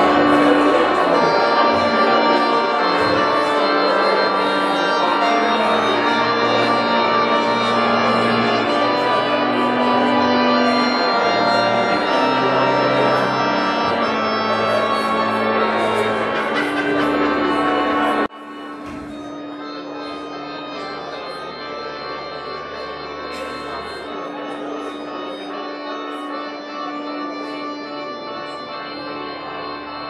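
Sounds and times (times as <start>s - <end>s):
slow keyboard music with held chords: 0.0s - 30.0s.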